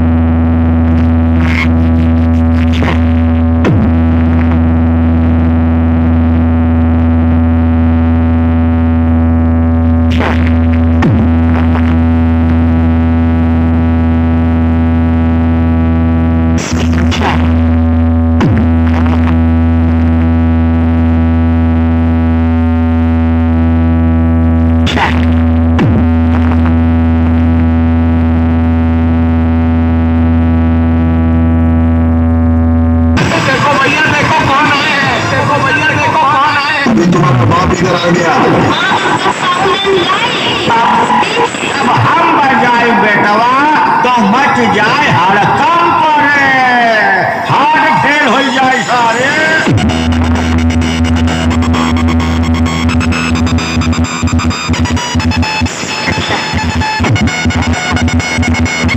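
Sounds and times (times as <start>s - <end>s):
distorted synthesizer drone: 0.0s - 58.9s
noisy burst: 0.0s - 58.9s.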